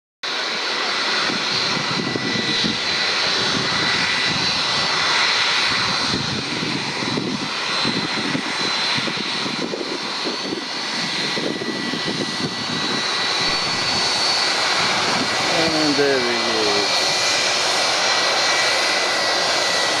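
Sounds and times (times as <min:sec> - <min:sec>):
jet engine whine: 0:00.2 - 0:20.0
jet engines running: 0:00.3 - 0:20.0.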